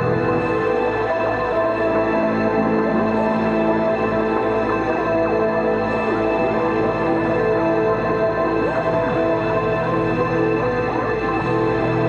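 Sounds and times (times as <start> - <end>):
music with held notes: 0.0 - 12.0.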